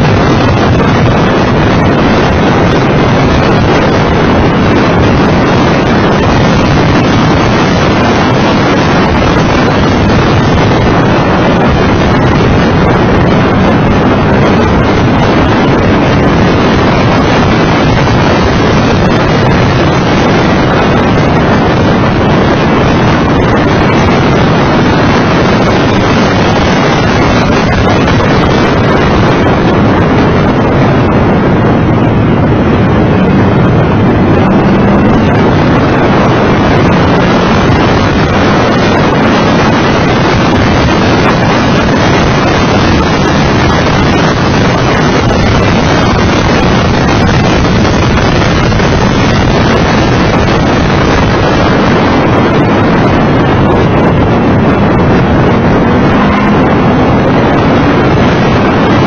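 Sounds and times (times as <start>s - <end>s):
car engine running hard: 0.0s - 59.0s
wind rushing on microphone: 0.0s - 59.0s.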